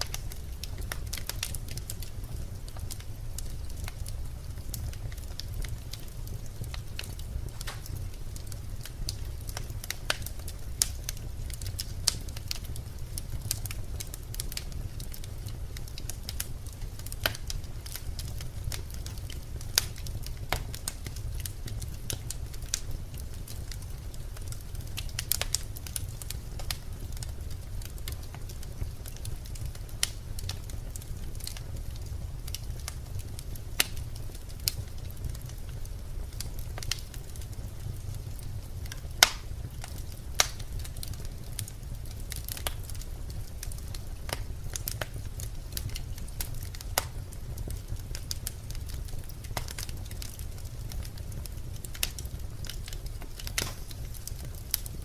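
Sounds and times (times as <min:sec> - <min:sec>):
logs crackling and popping: 0:00.0 - 0:55.0
low fire rumble: 0:00.0 - 0:55.0.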